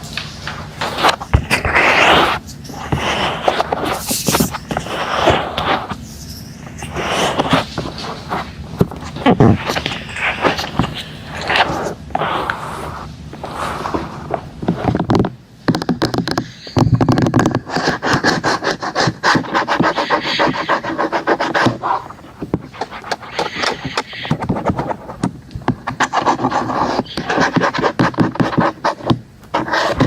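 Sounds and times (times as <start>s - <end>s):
scratchy rubbing: 0.8s - 30.0s.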